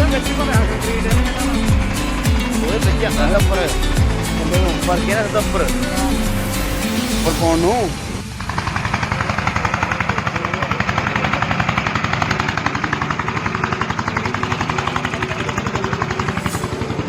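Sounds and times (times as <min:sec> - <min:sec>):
engine running with rapid thudding: 0:00.0 - 0:17.0.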